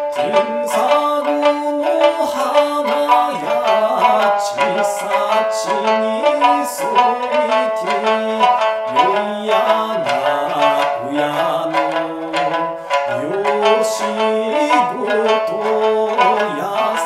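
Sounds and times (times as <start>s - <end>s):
man singing: 0.0s - 17.0s
plucked lute: 0.0s - 17.0s.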